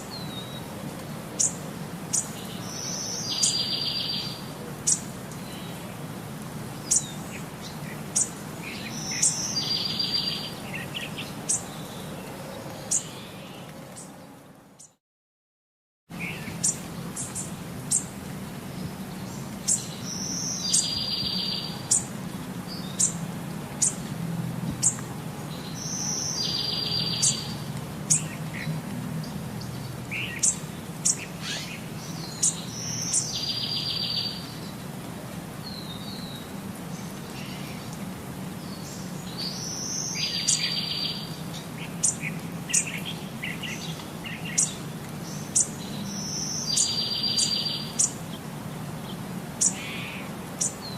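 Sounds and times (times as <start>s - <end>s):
birds chirping: 1.3s - 6.0s, 6.7s - 15.0s, 16.1s - 24.1s, 24.7s - 34.9s, 35.6s - 50.9s.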